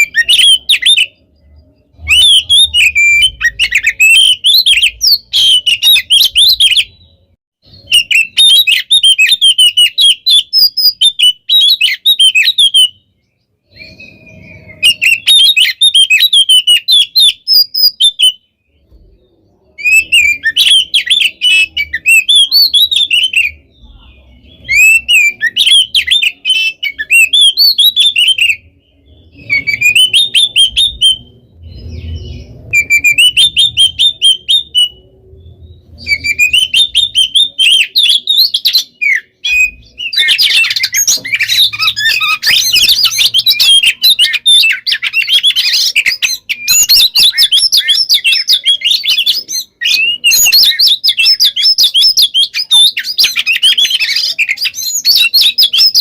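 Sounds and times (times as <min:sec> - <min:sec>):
songbird singing varied song: 0:00.0 - 0:56.0.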